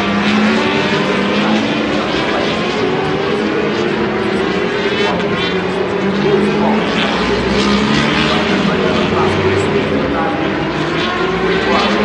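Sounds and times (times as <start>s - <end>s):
superbike engines at speed: 0.0s - 12.0s.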